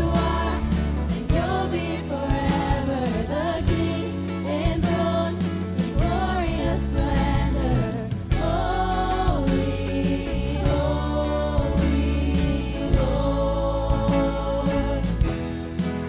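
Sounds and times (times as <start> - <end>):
women singing: 0.0 - 15.6
band accompaniment: 0.0 - 16.0.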